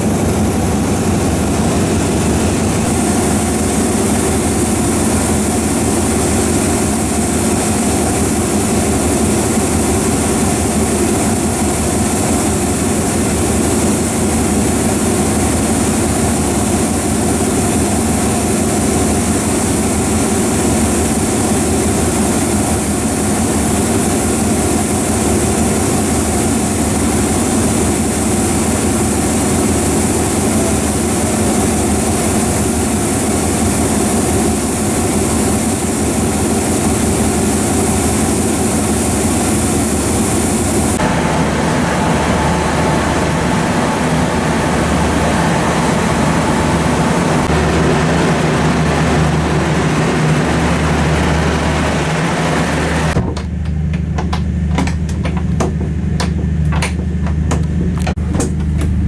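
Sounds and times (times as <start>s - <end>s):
diesel train machinery drone: 0.0s - 59.0s.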